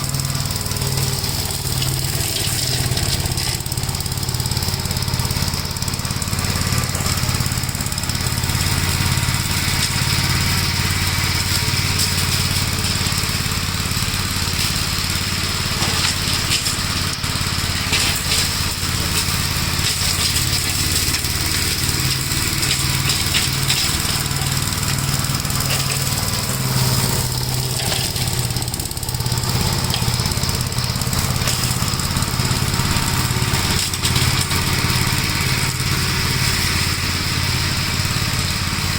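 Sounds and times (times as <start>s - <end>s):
single-cylinder engine running: 0.0s - 38.9s.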